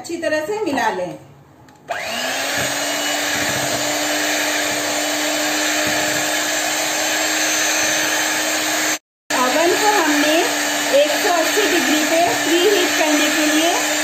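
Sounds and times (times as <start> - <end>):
electric hand mixer running: 1.9 - 14.0.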